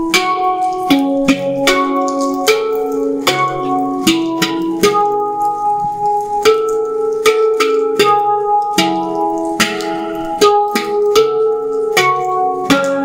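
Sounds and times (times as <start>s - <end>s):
handpan melody: 0.0s - 13.0s.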